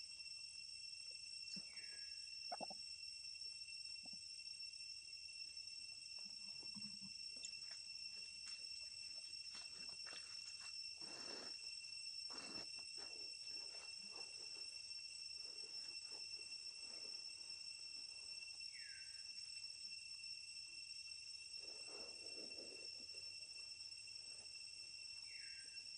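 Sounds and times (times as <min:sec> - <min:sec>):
high-pitched insect chorus: 0:00.0 - 0:25.9.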